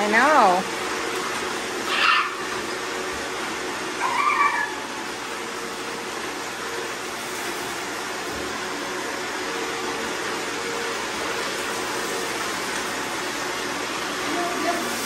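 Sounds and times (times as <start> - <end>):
robot vacuums whirring: 0.1 - 15.0.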